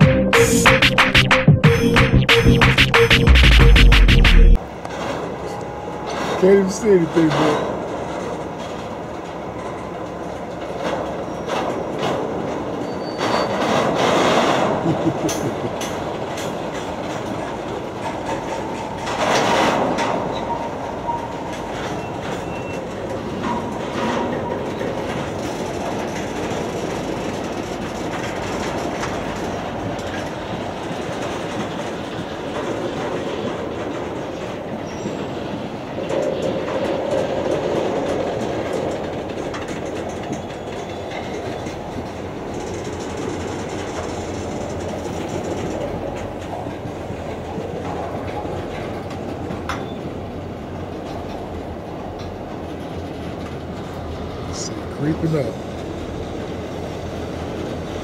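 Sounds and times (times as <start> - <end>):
freight train wheels rumbling: 0.0 - 58.0
wheel clicks over rail joints: 4.8 - 58.0.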